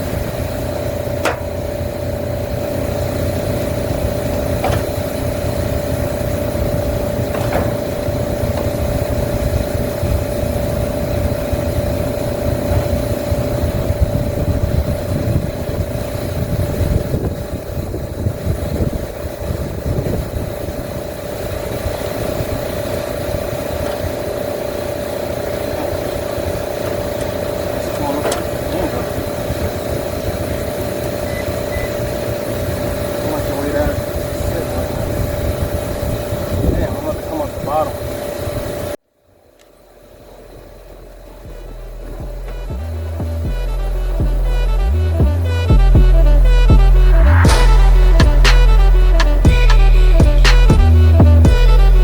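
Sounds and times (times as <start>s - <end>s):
machinery humming: 0.0s - 52.0s.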